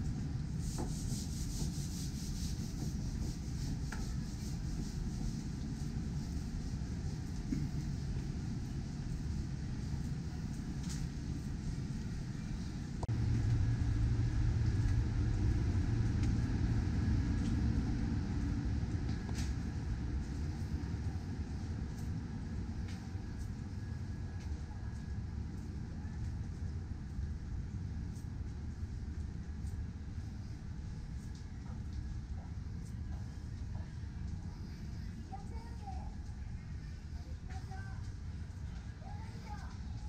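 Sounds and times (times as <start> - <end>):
city background rumble: 0.0 - 40.0.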